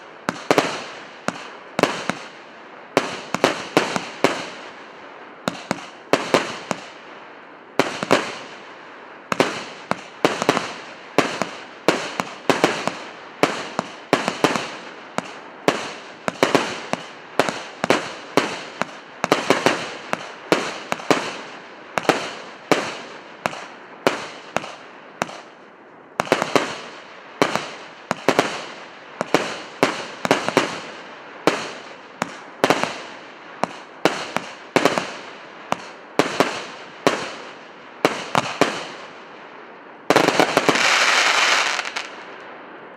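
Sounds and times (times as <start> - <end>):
firework bangs with crackling: 0.0 - 4.8, 5.5 - 7.0, 7.8 - 8.7, 9.3 - 25.6, 26.2 - 39.2, 40.1 - 42.3.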